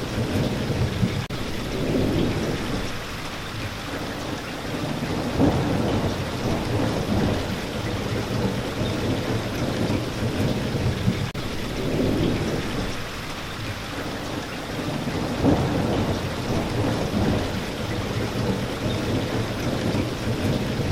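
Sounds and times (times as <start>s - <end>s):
heavy rain: 0.0s - 20.9s
low rumble of thunder: 0.0s - 20.9s.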